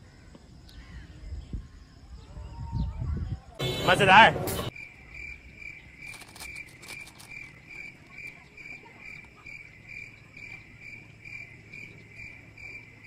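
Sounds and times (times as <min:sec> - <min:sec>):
insect chirping: 0:00.0 - 0:03.6, 0:04.7 - 0:13.0.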